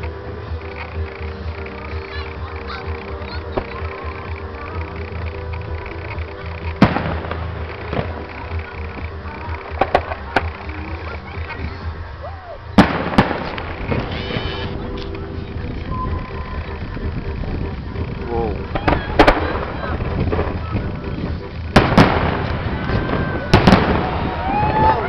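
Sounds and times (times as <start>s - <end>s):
fireworks crackle: 0.0s - 25.0s
fireworks bangs: 1.9s - 12.0s, 12.6s - 25.0s.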